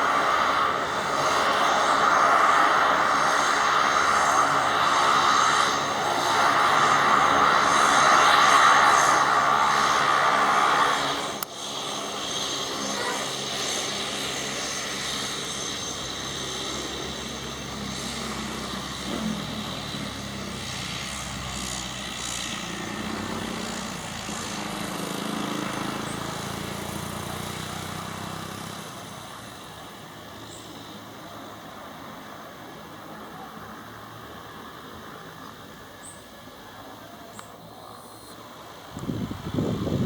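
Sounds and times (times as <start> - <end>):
turboprop engine and propeller: 0.0 - 40.0.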